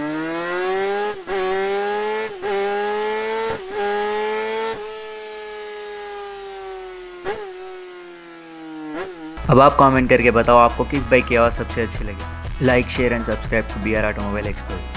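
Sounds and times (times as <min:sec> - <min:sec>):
motorcycle engine revving high: 0:00.0 - 0:14.9.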